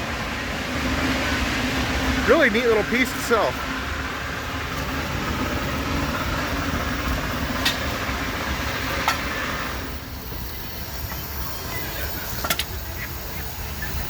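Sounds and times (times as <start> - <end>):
steam engine hissing: 0.0 - 14.0.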